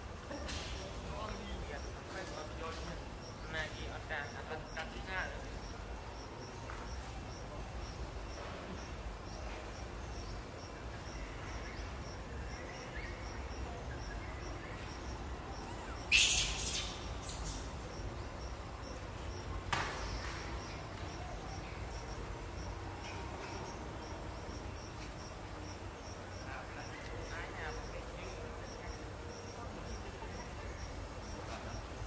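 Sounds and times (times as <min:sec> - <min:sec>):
insect chirping: 0:00.1 - 0:32.0.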